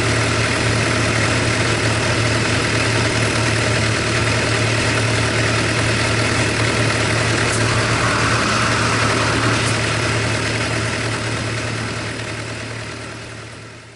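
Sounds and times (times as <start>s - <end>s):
motorcycle engine idling: 0.0s - 13.9s.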